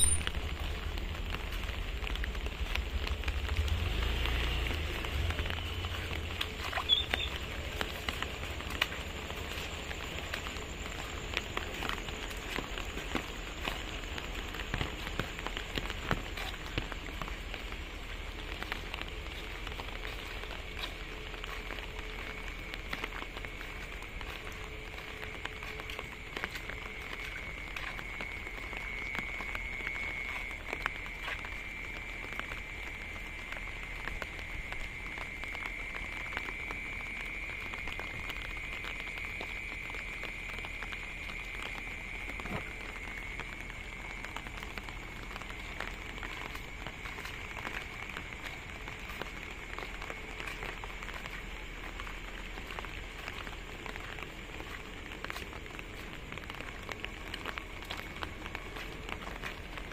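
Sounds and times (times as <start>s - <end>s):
drizzle pattering on ground: 0.0s - 59.9s.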